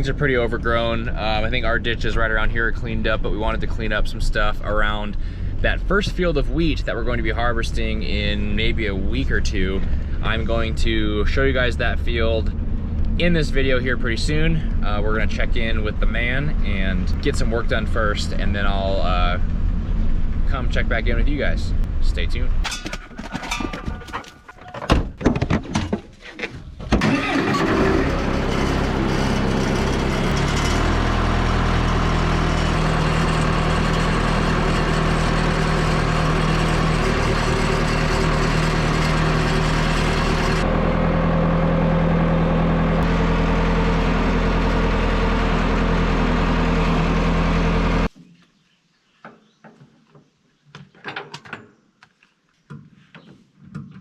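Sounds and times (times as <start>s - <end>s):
vehicle engine running: 0.0s - 22.2s, 27.0s - 48.1s.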